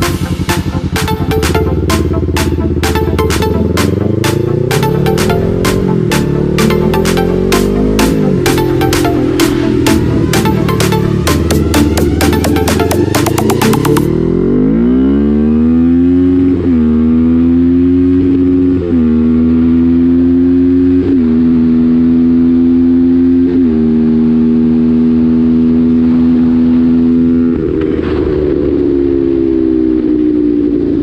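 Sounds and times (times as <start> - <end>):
quad engine accelerating: 0.0 - 31.0.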